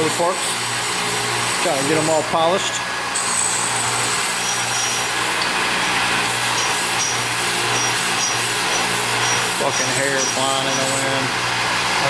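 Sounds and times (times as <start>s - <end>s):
metal parts being polished: 0.0s - 11.4s
electric power tool running: 0.0s - 12.0s.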